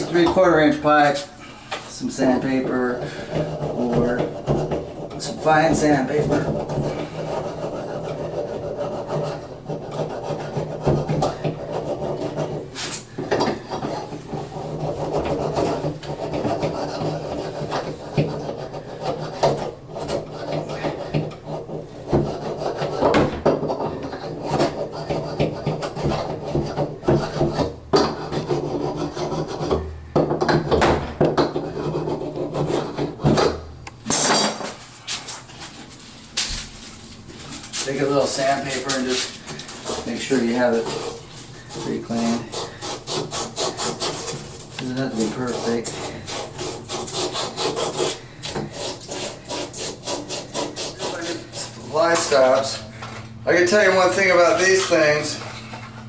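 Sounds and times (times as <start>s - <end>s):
sandpaper scraping a pipe: 0.0s - 29.9s, 31.5s - 33.3s, 34.7s - 52.9s, 53.5s - 56.0s.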